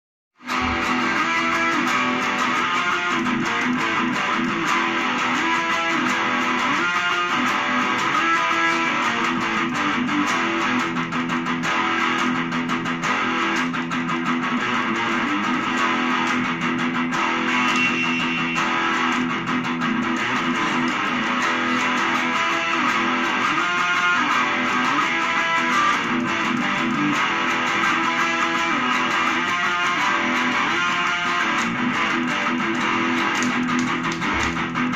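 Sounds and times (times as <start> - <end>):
electric guitar lead line: 0.4 - 34.9.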